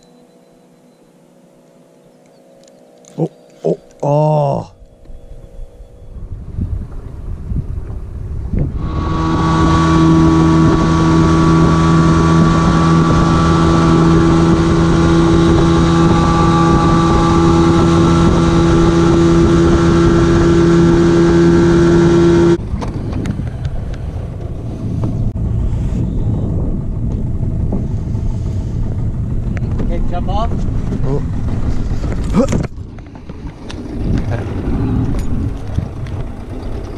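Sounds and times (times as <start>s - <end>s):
outboard motor running: 6.2s - 36.9s.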